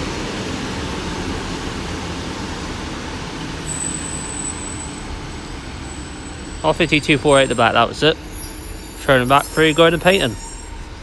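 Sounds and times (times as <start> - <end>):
diesel train engine rumble: 0.0 - 11.0
train wheel noise: 0.0 - 11.0
thin high whine: 1.6 - 11.0.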